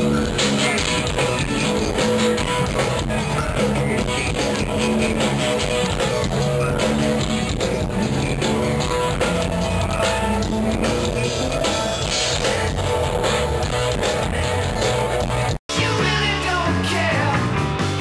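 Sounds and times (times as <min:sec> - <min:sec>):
drum kit beat: 0:00.0 - 0:18.0
strummed guitar: 0:00.0 - 0:18.0.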